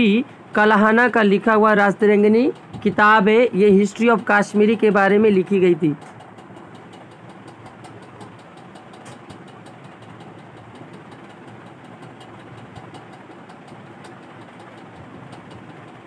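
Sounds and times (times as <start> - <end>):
machine-like background hum: 0.0 - 16.0
rapid even ticking: 0.0 - 16.0.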